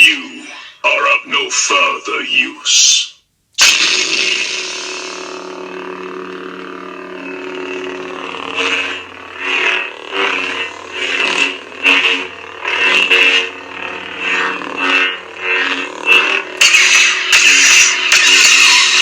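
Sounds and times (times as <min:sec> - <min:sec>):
lightsaber electric hum and whoosh: 0:03.6 - 0:19.0.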